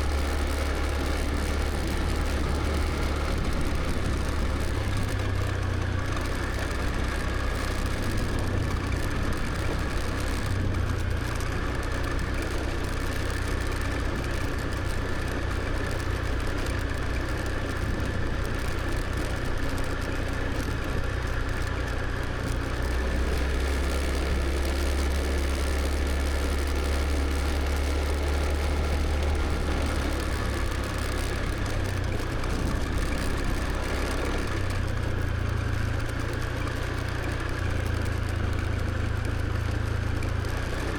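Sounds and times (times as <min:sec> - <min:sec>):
motor scooter engine running: 0:00.0 - 0:40.9.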